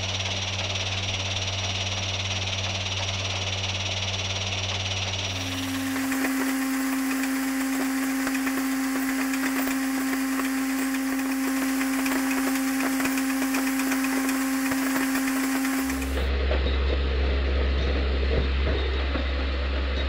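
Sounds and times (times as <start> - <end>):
machine humming: 0.0 - 16.4
rapid clicking rattle of nails: 0.1 - 16.3.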